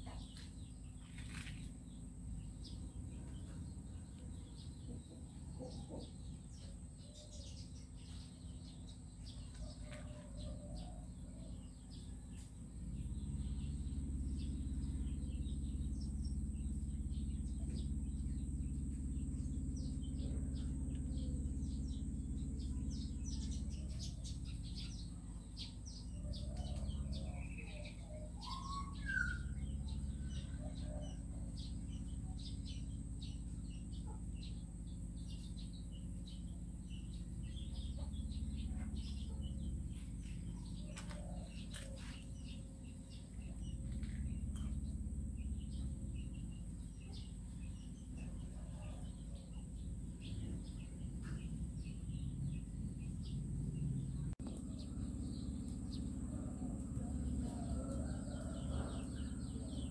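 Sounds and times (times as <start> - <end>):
birds chirping: 0.0 - 59.9
steady low hum: 0.0 - 59.9.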